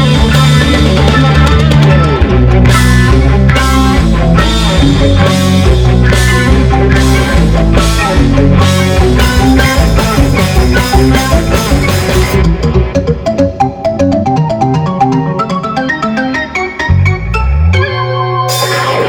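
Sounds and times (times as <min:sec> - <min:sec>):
drums: 0:00.0 - 0:17.2, 0:18.5 - 0:19.0
bass guitar: 0:00.0 - 0:19.0
electric guitar chords: 0:00.0 - 0:19.0.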